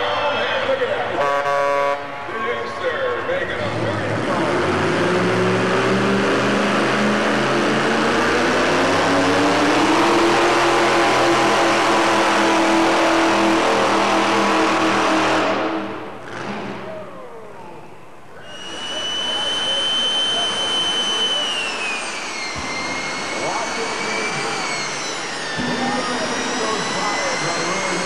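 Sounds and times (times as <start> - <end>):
truck engine running at high revs: 3.0 - 17.0, 18.5 - 28.0.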